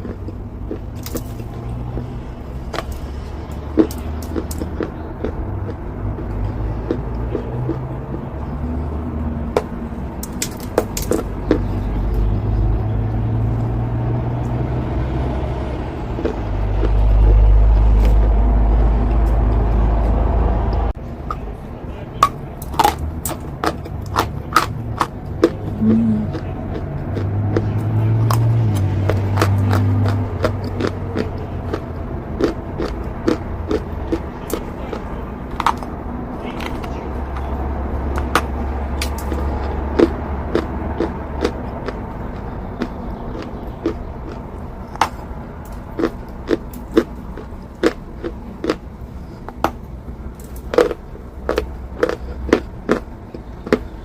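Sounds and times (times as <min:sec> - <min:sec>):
chalk being bitten and chewed: 0:00.0 - 0:12.6, 0:22.2 - 0:54.0
low steady rumble: 0:00.0 - 0:54.0.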